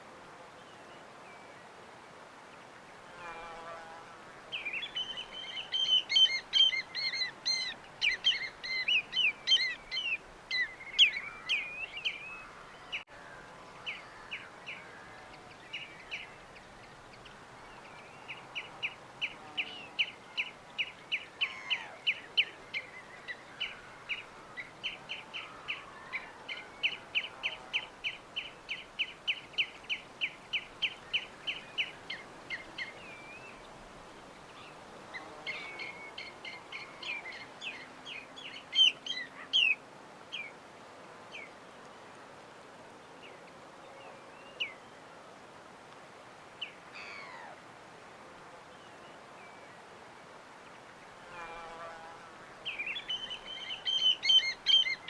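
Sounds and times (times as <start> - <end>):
steady background hiss: 0.0 - 55.0
songbirds singing: 2.5 - 40.6, 42.9 - 45.2, 46.5 - 47.6, 48.6 - 55.0.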